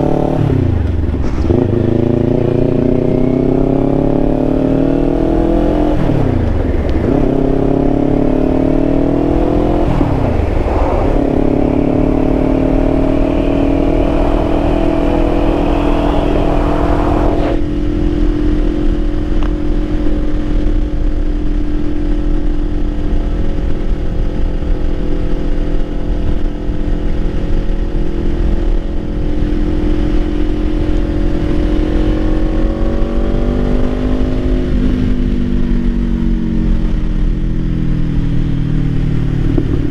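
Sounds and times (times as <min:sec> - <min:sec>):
motorcycle engine shifting and cruising: 0:00.0 - 0:39.9.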